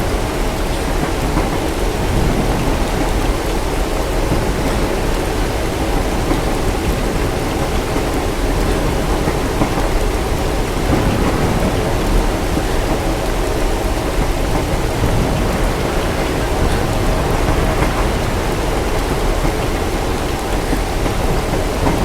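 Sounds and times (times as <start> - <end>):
steady rain: 0.0 - 22.0
distant thunder rumble: 1.1 - 22.0.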